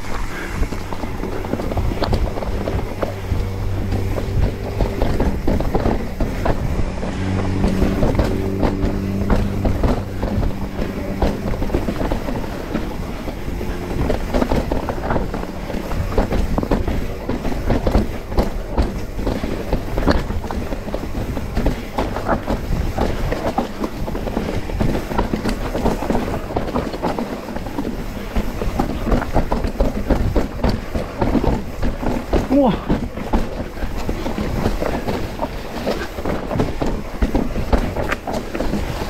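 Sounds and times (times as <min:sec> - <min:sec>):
mountain bike rattling over rocks: 0:00.0 - 0:39.0.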